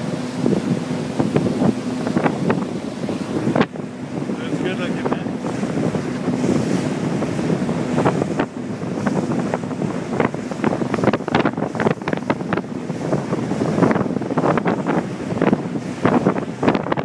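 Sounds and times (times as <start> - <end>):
choppy water rushing: 0.0 - 17.0
water slapping against hull: 0.0 - 17.0
wind buffeting microphone: 0.0 - 17.0.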